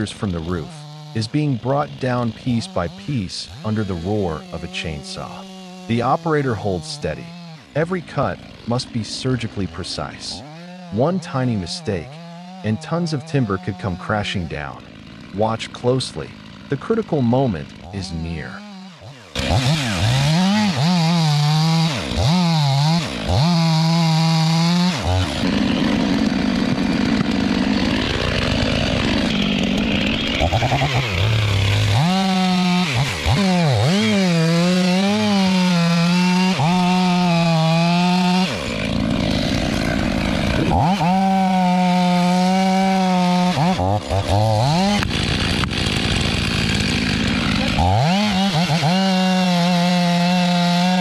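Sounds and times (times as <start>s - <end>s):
chainsaw revving and cutting: 0.0s - 51.0s.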